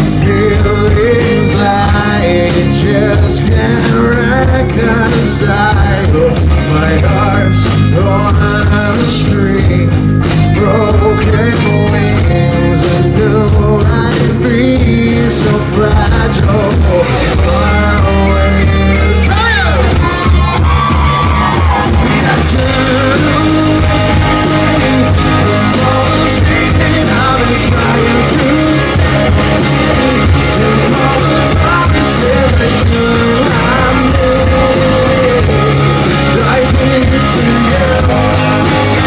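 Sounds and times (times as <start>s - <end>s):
male lead vocal: 0.0s - 20.2s, 20.8s - 39.0s
live rock band playing: 0.0s - 39.0s.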